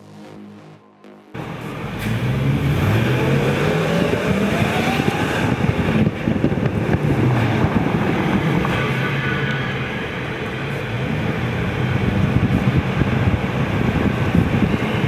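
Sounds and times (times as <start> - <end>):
supercharger whine: 0.0 - 15.0
engine rumbling: 1.4 - 15.0.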